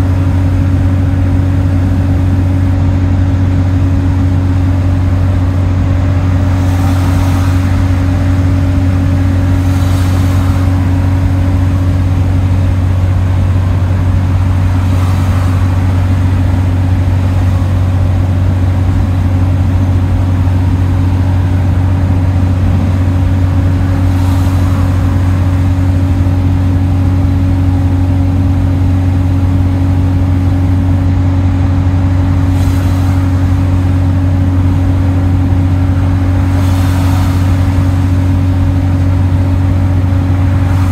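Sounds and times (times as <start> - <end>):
bus engine drone: 0.0 - 40.9
road and tyre noise: 0.0 - 40.9.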